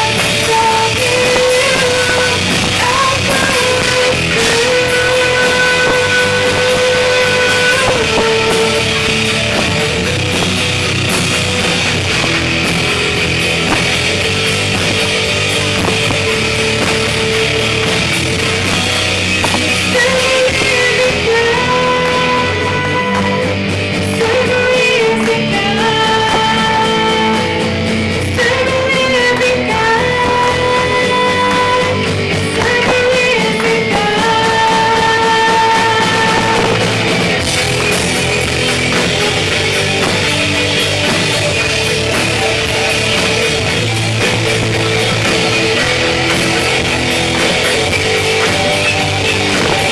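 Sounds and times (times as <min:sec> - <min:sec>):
rock song with singing: 0:00.0 - 0:49.9.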